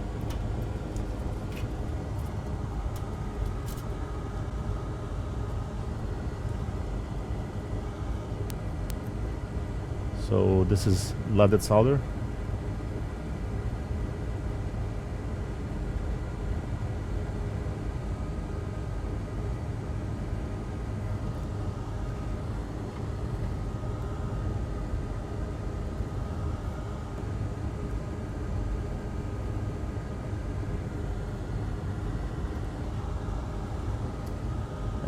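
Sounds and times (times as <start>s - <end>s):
faint constant whine: 0.0s - 35.0s
fan running: 0.0s - 35.0s.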